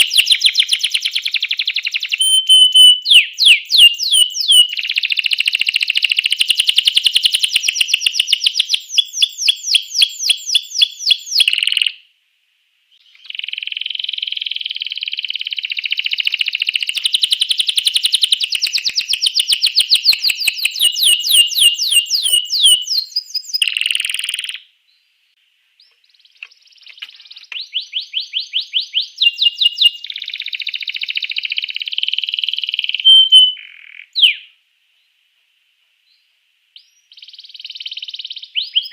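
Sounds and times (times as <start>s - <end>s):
canary singing trills: 0.0s - 12.0s, 13.0s - 25.1s, 25.8s - 34.5s, 36.8s - 38.9s.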